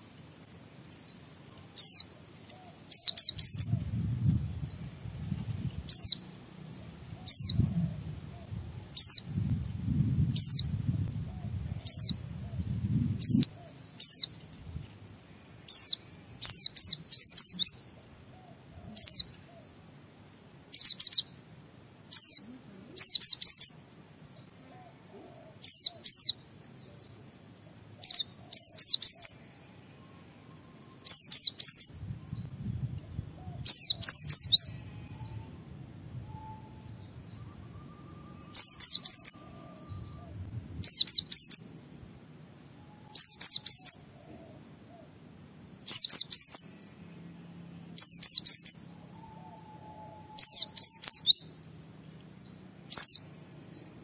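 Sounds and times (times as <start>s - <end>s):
bird chirping: 0.0s - 14.5s, 15.6s - 21.4s, 22.0s - 54.0s.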